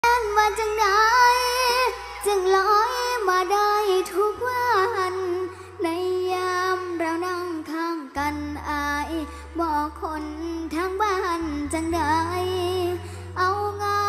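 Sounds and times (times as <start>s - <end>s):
girl singing into microphone: 0.0s - 14.0s.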